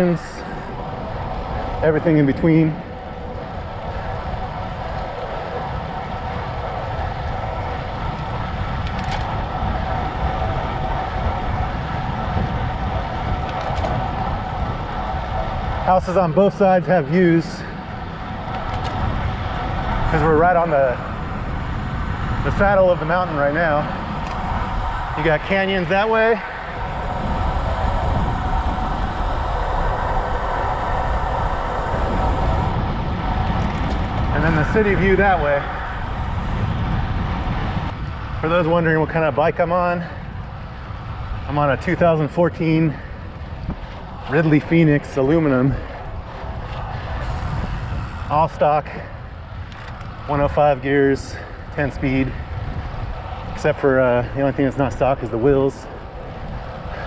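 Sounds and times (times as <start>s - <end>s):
bicycle tyres rolling: 0.0s - 57.0s
wind on microphone: 0.0s - 57.0s.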